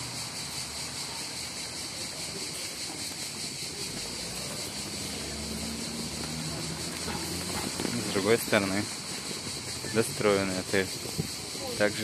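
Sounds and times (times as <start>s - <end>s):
outdoor street noise: 0.0s - 12.0s.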